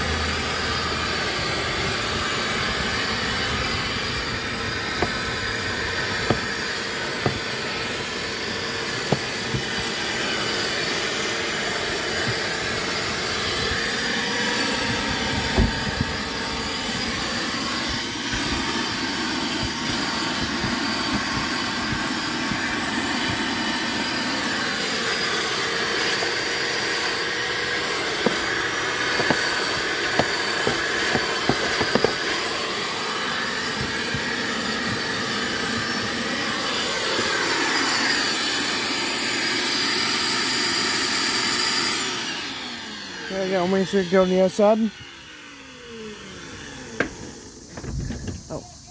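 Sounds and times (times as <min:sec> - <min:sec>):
shop vac sucking carpet: 0:00.0 - 0:48.7.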